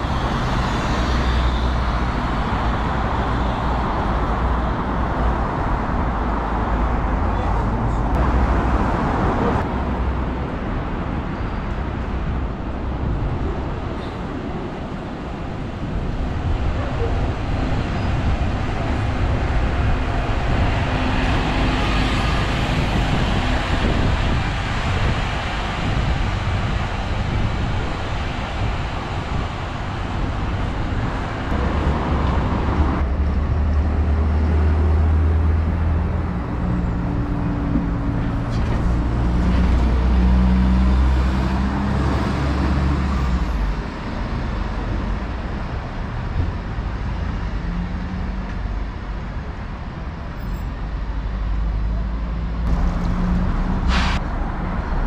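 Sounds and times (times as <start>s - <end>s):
bus engine humming: 0.0s - 55.0s
buses passing: 0.0s - 55.0s
tyres on road: 0.0s - 55.0s.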